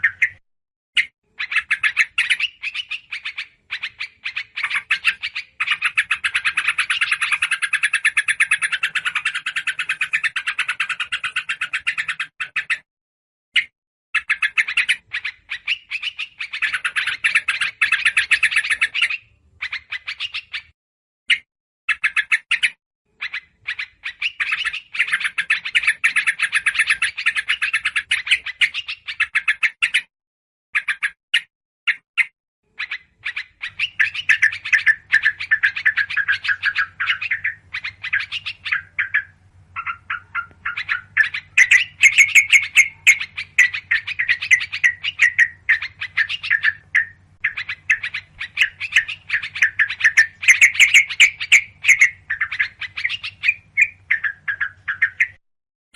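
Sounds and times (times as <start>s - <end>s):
small birds chattering: 0.0s - 0.4s, 1.0s - 12.9s, 13.6s - 30.1s, 30.8s - 31.2s, 31.9s - 55.4s.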